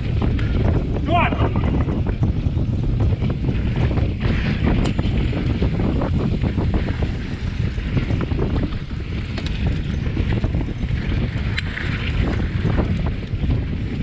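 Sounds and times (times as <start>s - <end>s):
bike rattling and clicking: 0.0s - 14.0s
tyres rumbling on dirt trail: 0.0s - 14.0s
wind buffeting microphone: 0.0s - 14.0s.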